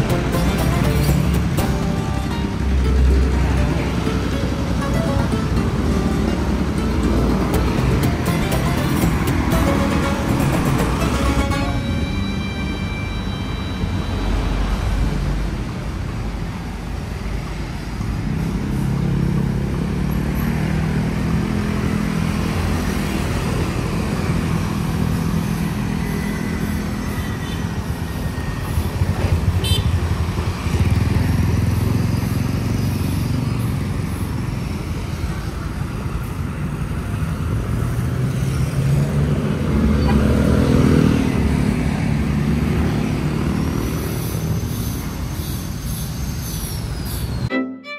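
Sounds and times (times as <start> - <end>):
motorcycles passing: 0.0 - 13.0, 18.2 - 45.2
traffic noise: 0.0 - 47.9.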